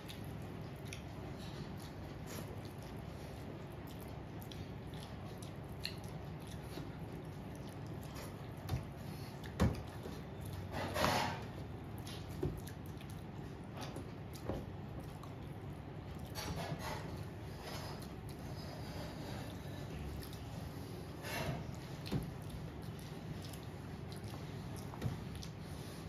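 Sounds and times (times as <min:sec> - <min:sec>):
chewing: 0:00.0 - 0:26.0
wet squishes of eating by hand: 0:00.0 - 0:26.0.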